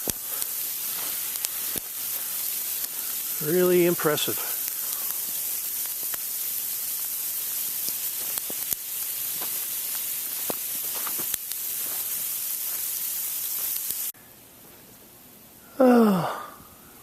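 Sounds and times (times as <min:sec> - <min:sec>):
ice pellets ticking: 0:00.0 - 0:14.1.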